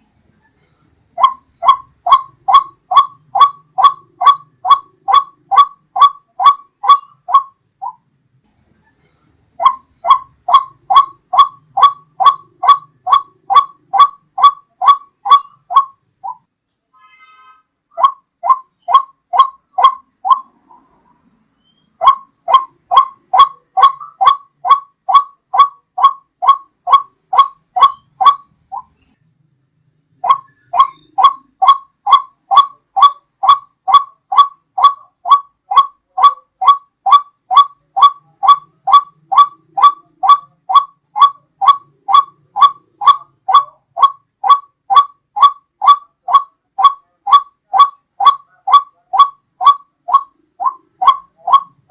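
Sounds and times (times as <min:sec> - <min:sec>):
waterhen calls: 0:01.2 - 0:08.0, 0:09.6 - 0:16.5, 0:17.9 - 0:21.0, 0:21.6 - 0:29.1, 0:30.2 - 0:51.9.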